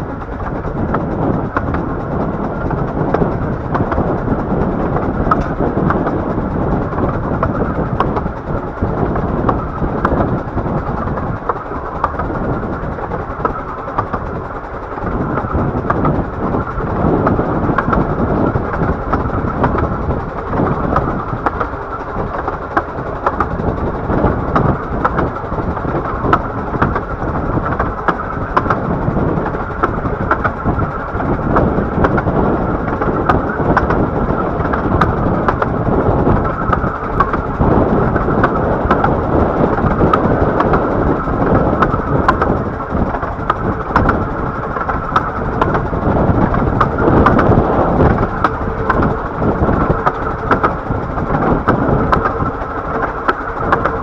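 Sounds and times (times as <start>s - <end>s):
small clicks of wheels: 0.0s - 54.0s
train wheels rumbling on rail: 0.0s - 54.0s.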